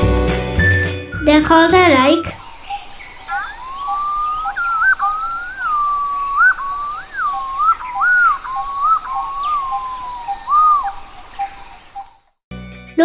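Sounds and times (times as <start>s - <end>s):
pigeon whistled calls: 0.6s - 12.1s.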